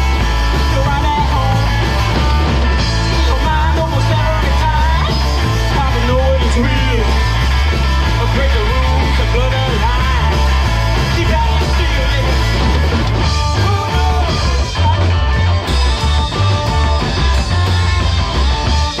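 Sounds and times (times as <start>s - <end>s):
electric guitar: 0.0s - 19.0s
live rock band playing: 0.0s - 19.0s
pulsing bass line: 0.0s - 19.0s.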